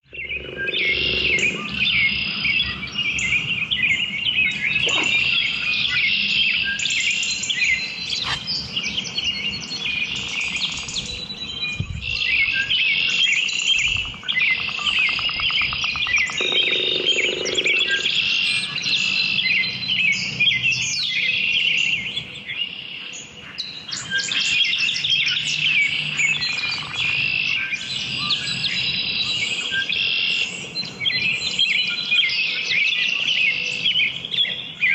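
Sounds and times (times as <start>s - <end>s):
songbirds singing and calling: 0.0s - 34.9s.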